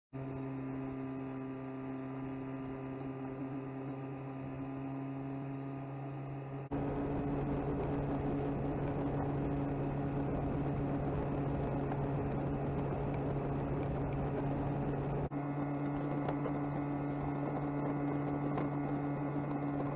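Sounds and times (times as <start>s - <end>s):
outboard motor humming: 0.2s - 19.9s
water wake and wind rushing: 0.2s - 19.9s.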